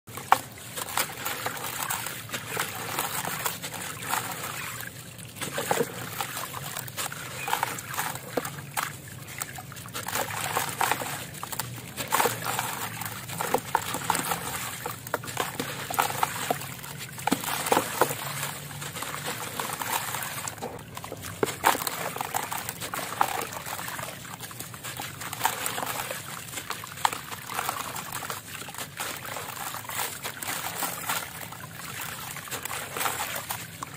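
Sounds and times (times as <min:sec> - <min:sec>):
grit trickling into water: 0:00.1 - 0:33.9
water sloshing: 0:00.1 - 0:33.9.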